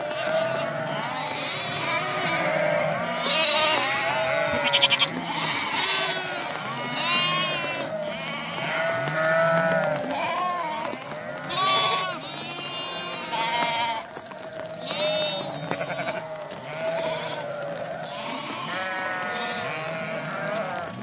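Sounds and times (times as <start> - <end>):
flock of sheep bleating: 0.0 - 21.0.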